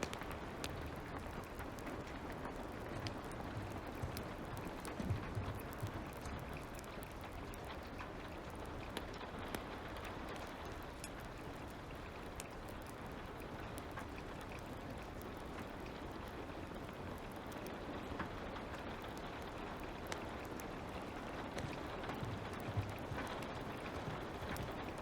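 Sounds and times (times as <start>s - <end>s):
fire crackling: 0.0s - 25.0s
light rain falling: 0.0s - 25.0s.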